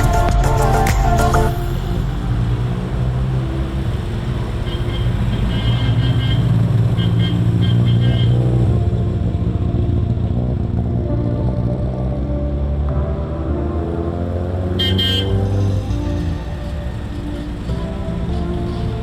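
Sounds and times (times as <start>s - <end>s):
faint background music: 0.0s - 19.0s
vehicle engine droning: 0.0s - 19.0s.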